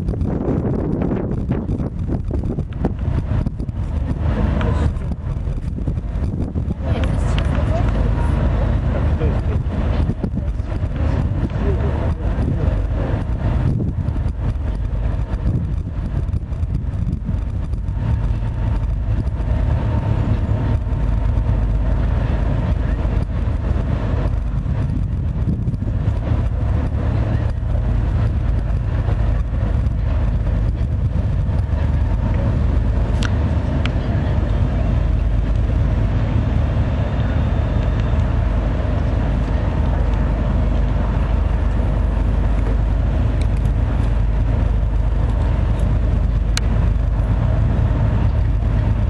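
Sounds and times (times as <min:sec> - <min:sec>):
ship diesel engine rumble: 0:00.0 - 0:49.0.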